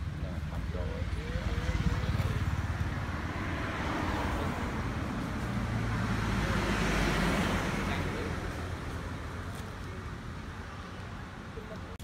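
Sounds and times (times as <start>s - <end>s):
vehicle passing by: 0.0s - 11.4s.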